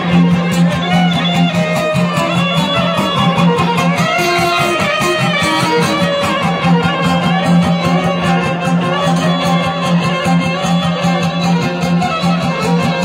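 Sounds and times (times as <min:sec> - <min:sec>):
fiddle melody: 0:00.0 - 0:13.0
low drone note: 0:00.0 - 0:13.0
lute strummed quickly: 0:00.0 - 0:13.0.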